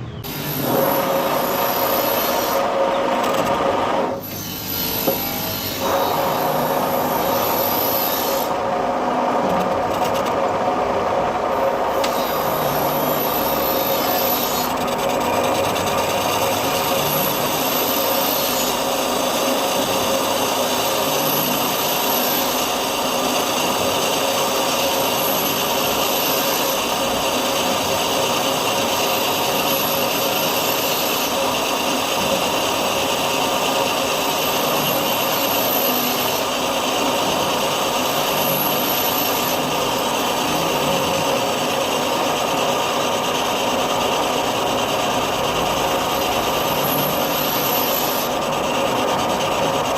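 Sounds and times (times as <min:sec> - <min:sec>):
machine running hum: 0:00.0 - 0:49.9
lathe cutting metal: 0:00.2 - 0:49.9.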